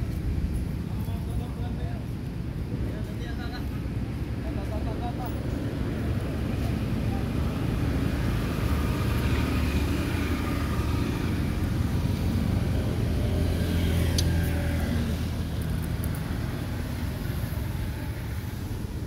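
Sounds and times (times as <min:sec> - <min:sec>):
passing vehicle engine rumble: 0:00.0 - 0:19.0.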